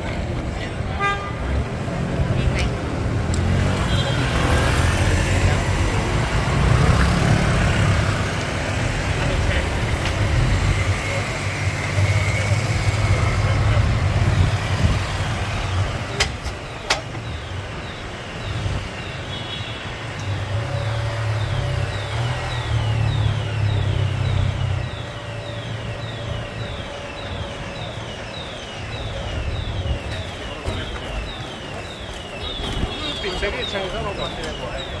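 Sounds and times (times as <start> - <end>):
vehicle engines rumbling: 0.0 - 35.0.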